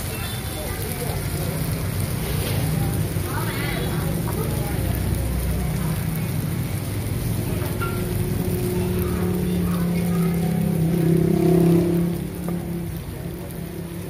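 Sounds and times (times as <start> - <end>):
batter sizzling in pans: 0.0 - 14.0.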